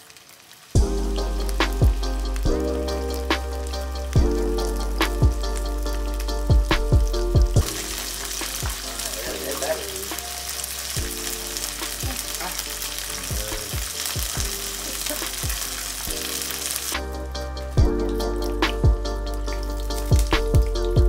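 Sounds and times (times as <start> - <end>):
fish deep-frying in oil: 0.0 - 21.0.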